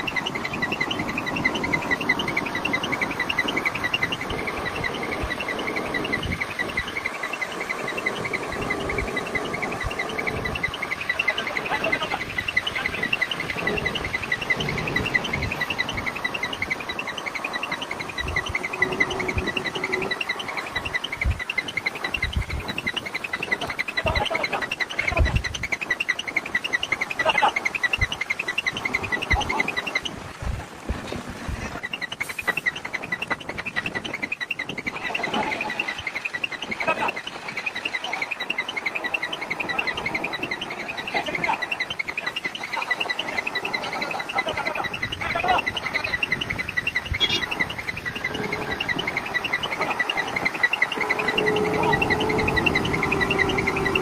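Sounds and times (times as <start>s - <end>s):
insects chirping: 0.0s - 30.3s, 31.7s - 54.0s.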